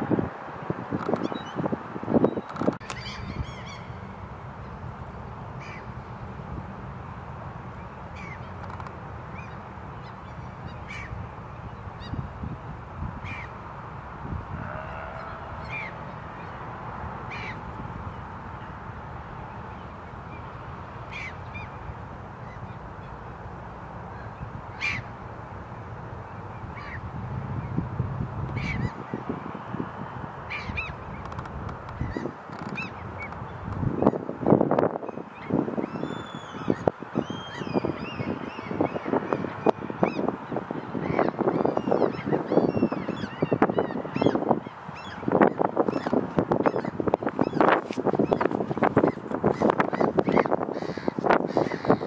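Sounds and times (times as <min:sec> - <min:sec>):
outdoor background hiss: 0:00.0 - 0:52.0.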